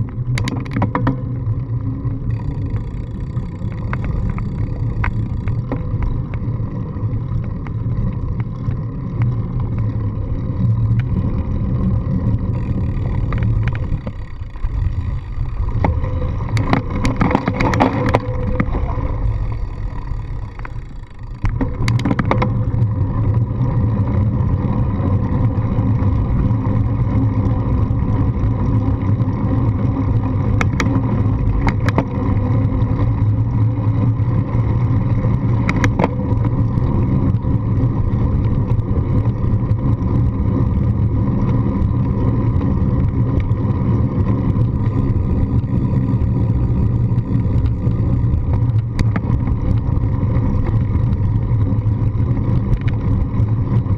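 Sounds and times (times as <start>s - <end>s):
bicycle riding rumble: 0.0s - 53.9s
sharp clicks from bumps: 0.0s - 53.9s.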